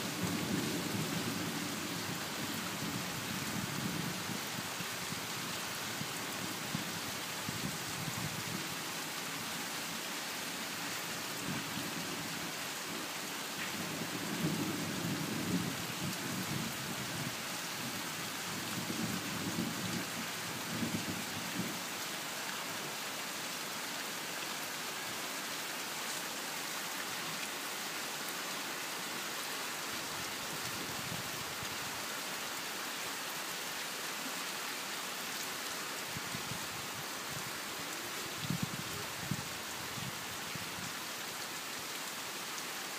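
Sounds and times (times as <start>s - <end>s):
rain falling on leaves: 0.0s - 42.9s.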